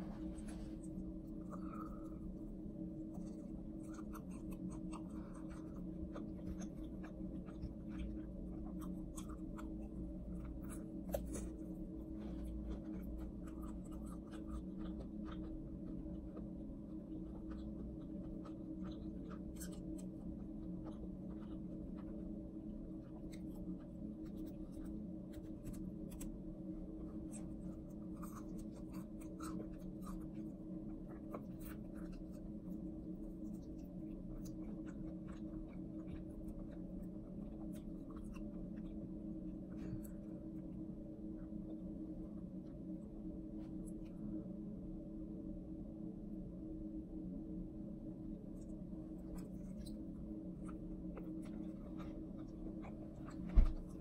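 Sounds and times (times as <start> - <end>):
chewing crispy chicken: 0.0 - 44.5, 48.2 - 54.0
steady low hum: 0.0 - 54.0.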